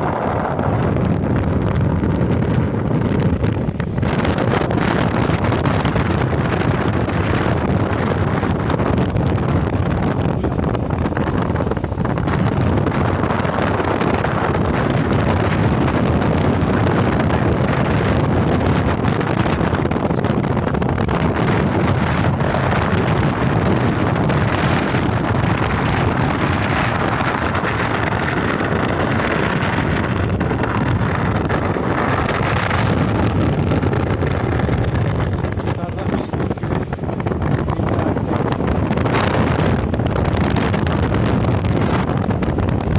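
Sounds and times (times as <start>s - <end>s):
motorcycle running noise: 0.0s - 42.9s
wind rushing over microphone: 0.0s - 42.9s.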